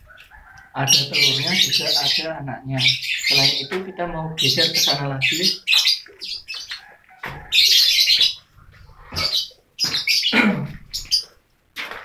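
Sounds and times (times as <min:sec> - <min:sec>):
lovebirds chirping: 0:00.0 - 0:11.5.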